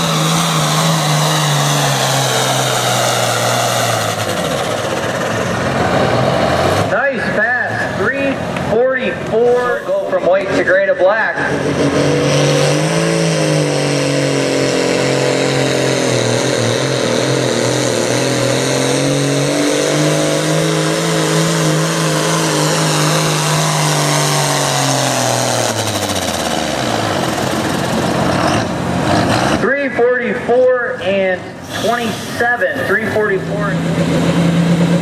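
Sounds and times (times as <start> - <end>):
tractor engine at high revs: 0.0 - 35.0.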